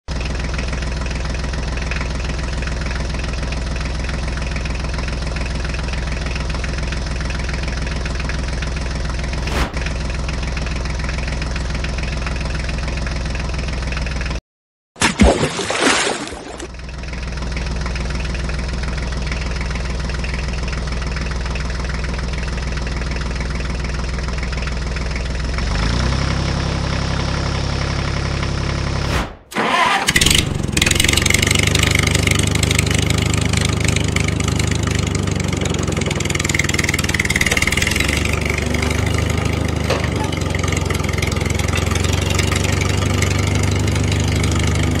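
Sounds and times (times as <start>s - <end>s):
tractor engine running: 0.1s - 14.4s, 16.3s - 45.0s.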